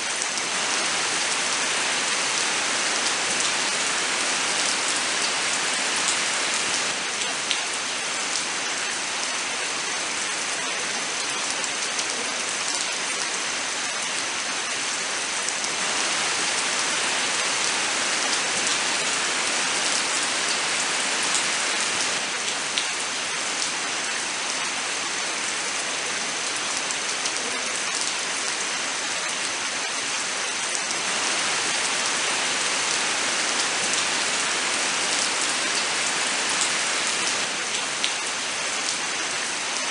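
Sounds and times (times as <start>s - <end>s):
rain pattering: 0.0s - 8.6s, 14.8s - 29.4s, 30.0s - 39.9s.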